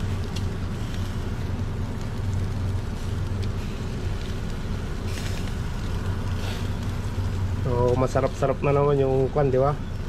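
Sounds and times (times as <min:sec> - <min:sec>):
constant low hum: 0:00.0 - 0:10.0
faint crackles of coals: 0:00.0 - 0:10.0
steady rushing noise: 0:00.0 - 0:10.0.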